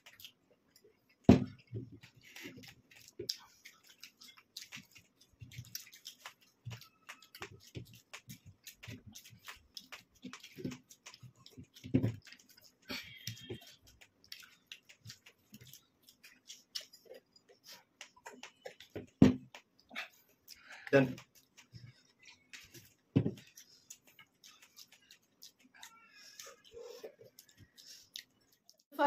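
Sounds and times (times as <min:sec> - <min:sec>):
people chewing and lip smacking: 0:00.0 - 0:29.0.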